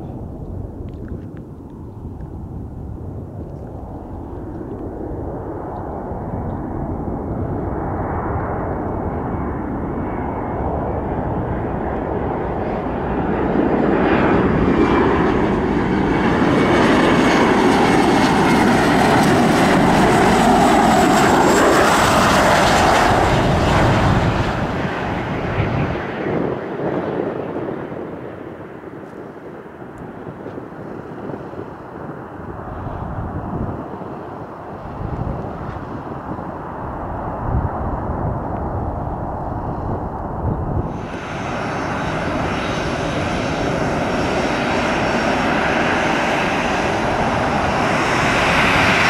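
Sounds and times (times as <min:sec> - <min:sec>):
jet airliner passing overhead: 0:00.0 - 0:49.0.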